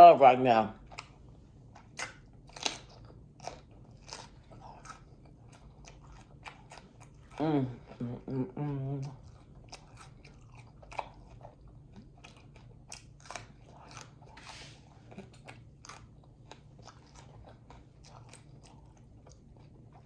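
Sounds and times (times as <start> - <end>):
chewing and crunching: 0.7 - 20.0.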